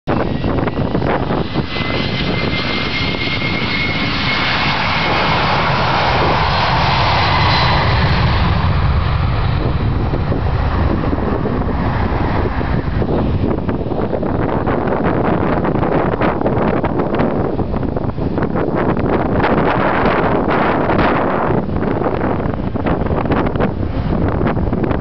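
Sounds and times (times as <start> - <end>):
jet engines roaring with whine: 0.1 - 25.0.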